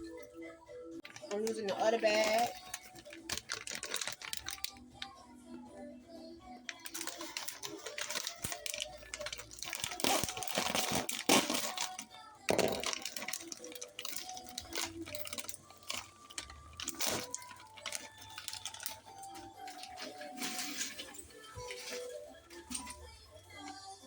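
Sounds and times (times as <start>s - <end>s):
faint background music: 0.0s - 24.0s.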